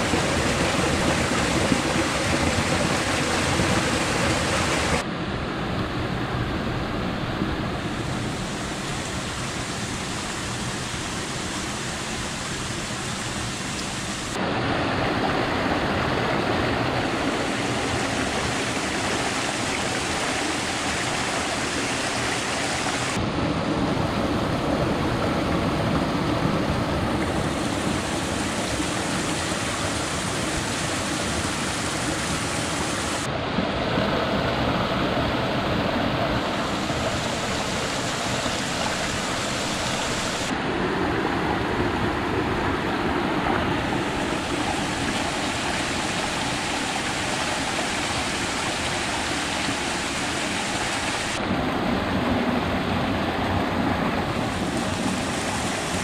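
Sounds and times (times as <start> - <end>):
stream rushing over cascades: 0.0 - 56.0.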